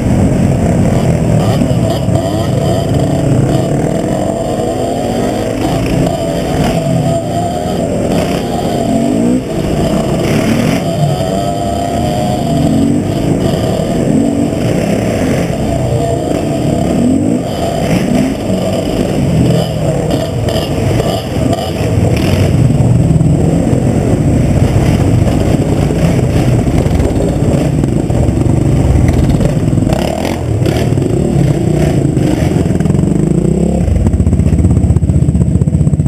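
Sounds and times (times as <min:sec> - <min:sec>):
motorcycle engine running and idling: 0:00.0 - 0:36.0
motorcycle rattling: 0:00.0 - 0:36.0.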